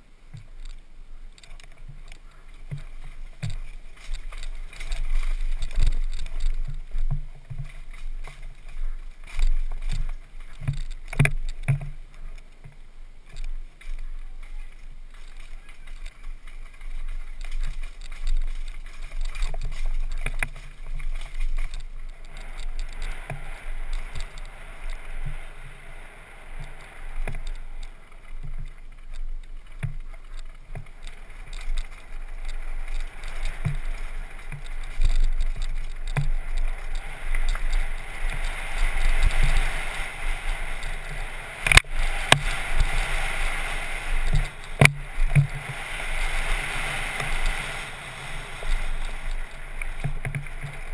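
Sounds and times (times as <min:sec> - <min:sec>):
bike rattling over bumps: 0:00.0 - 0:50.9
wind and tyres rumbling: 0:00.0 - 0:50.9.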